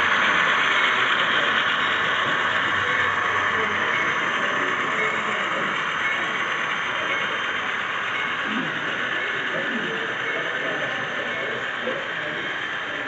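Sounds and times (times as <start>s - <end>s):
faint voices: 0.0s - 13.0s
model trains whirring on track: 0.0s - 13.0s.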